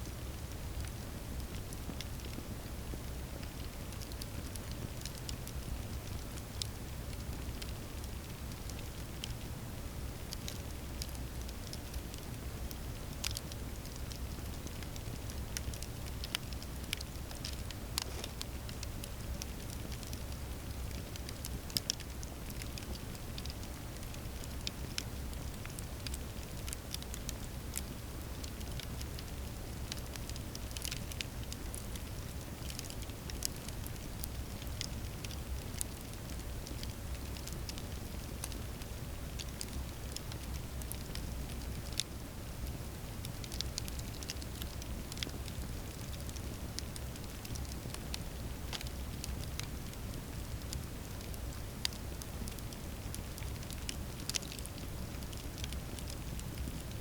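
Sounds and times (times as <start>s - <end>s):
low rumble of flames: 0.0s - 57.0s
campfire crackling and popping: 0.1s - 57.0s.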